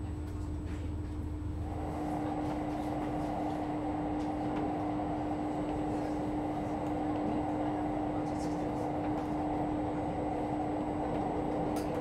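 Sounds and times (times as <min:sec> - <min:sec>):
train hum and wheel rumble: 0:00.0 - 0:12.0.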